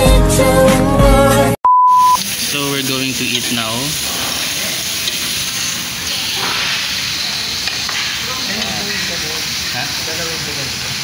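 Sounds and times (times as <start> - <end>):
pork sizzling on a grill: 2.2 - 11.0.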